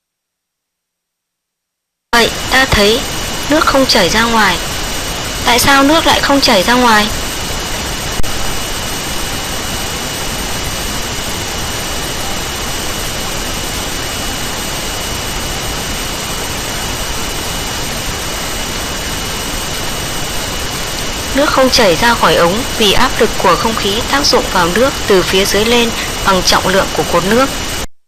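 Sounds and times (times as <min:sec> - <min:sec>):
faint high steady whine: 0:02.1 - 0:28.0
static hiss: 0:02.1 - 0:28.0.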